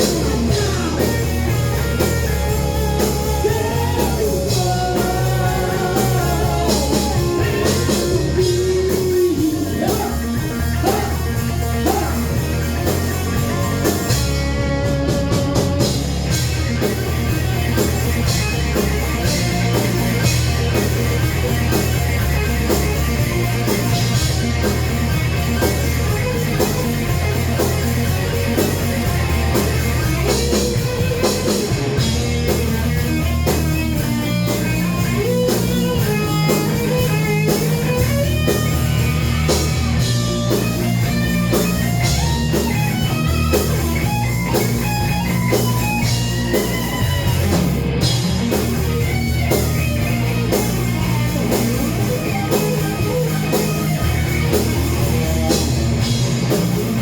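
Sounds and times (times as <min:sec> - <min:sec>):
heavy metal band playing: 0:00.0 - 0:57.0
lead guitar line: 0:00.0 - 0:57.0.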